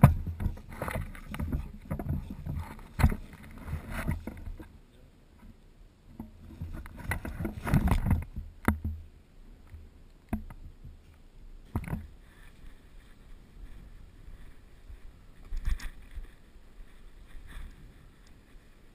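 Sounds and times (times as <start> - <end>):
rustling and knocking: 0.0 - 4.7, 6.1 - 9.1, 10.3 - 18.5.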